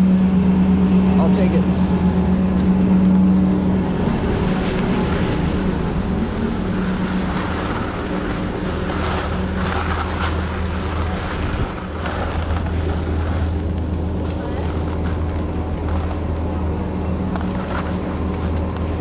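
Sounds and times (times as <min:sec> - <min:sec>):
low mechanical hum: 0:00.0 - 0:19.0
wind on microphone: 0:00.0 - 0:19.0.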